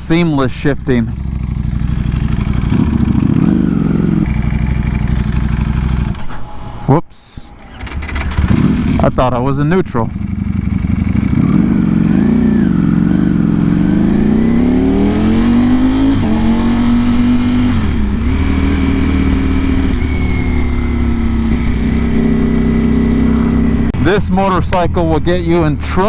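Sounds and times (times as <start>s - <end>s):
motorcycle engine accelerating: 0.0s - 6.8s, 7.6s - 26.0s.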